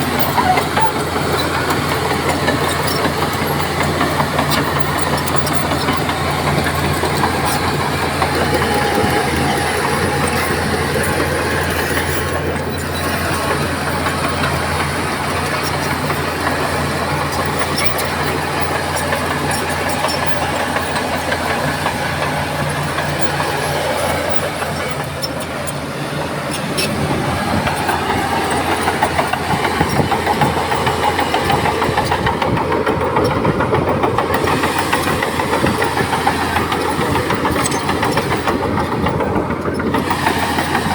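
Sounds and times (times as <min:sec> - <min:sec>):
heavy diesel engine drone: 0:00.0 - 0:40.9.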